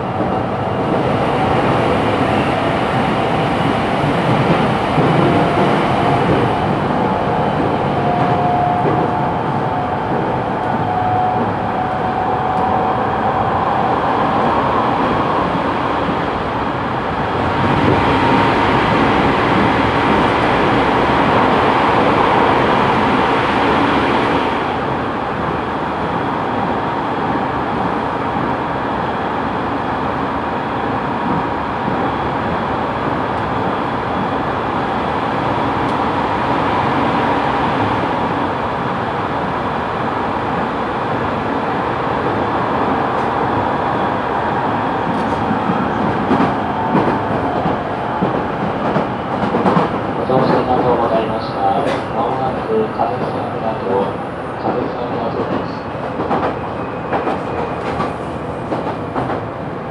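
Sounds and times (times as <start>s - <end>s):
wheels rushing on rail: 0.0s - 59.9s.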